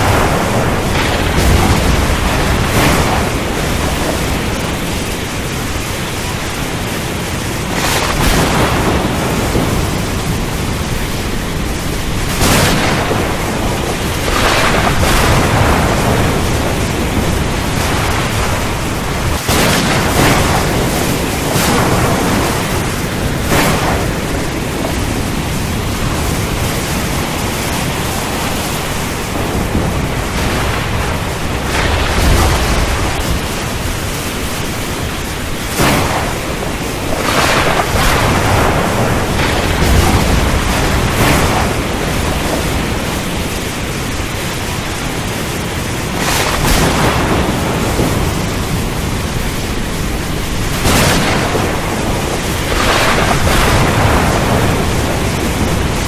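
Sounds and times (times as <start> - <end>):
loud rushing rain noise: 0.0 - 56.0
thunder cracks and rumbles: 0.0 - 56.0.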